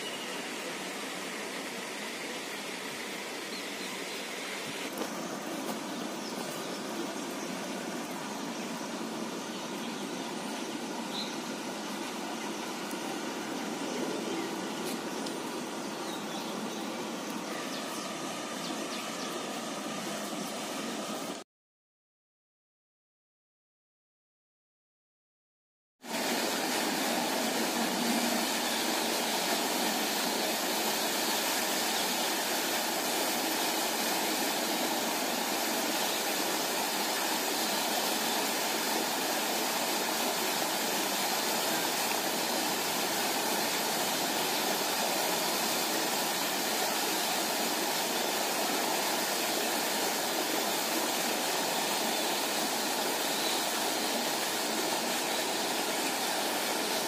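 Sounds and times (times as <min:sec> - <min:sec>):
fountain spray splashing on water: 0:00.0 - 0:21.4, 0:26.0 - 0:57.0.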